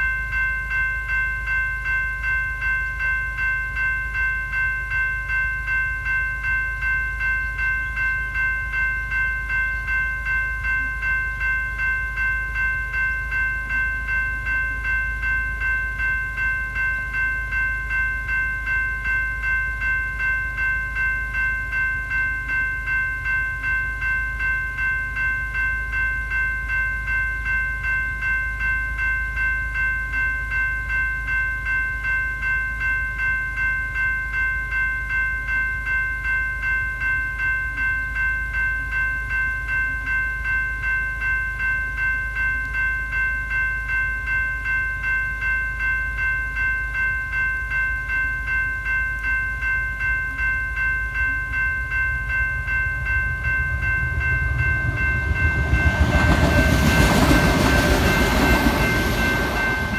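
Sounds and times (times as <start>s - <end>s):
level-crossing bell ringing: 0.0s - 59.9s.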